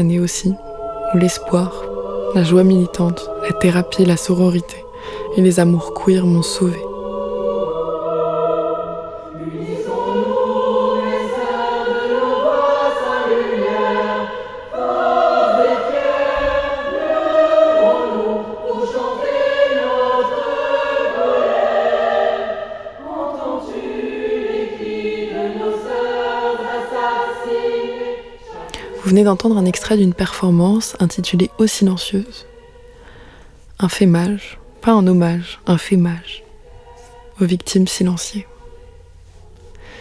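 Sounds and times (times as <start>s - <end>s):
choir singing held chords: 0.0s - 40.0s.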